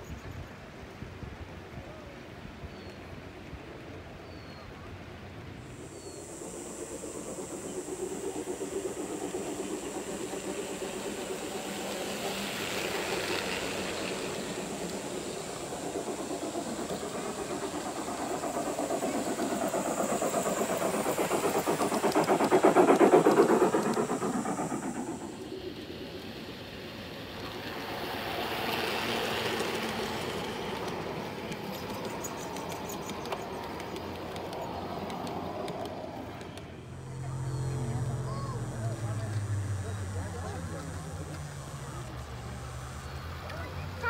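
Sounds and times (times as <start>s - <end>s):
model train rumble: 4.6s - 44.0s
model train wheels clicking: 5.7s - 44.0s.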